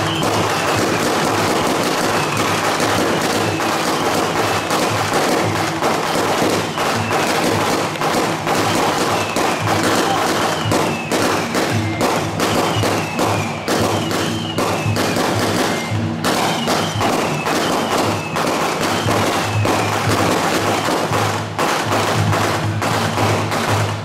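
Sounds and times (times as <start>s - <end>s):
drums and cymbals: 0.0s - 24.0s.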